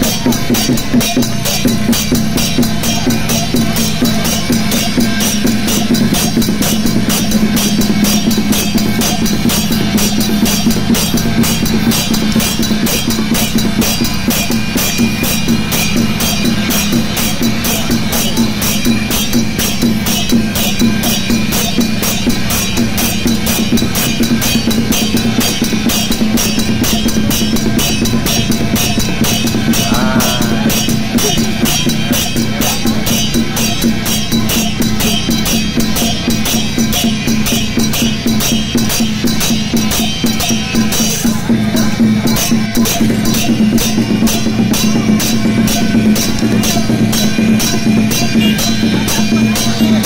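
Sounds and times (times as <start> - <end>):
music with fast drum beat: 0.0 - 50.0.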